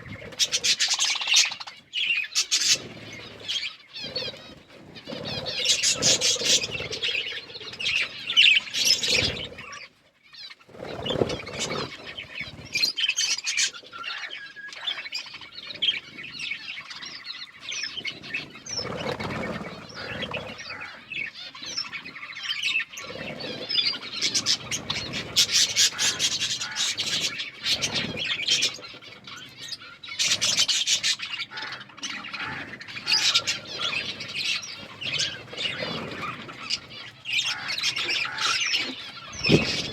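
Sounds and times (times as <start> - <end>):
budgerigars chirping: 0.1 - 39.9.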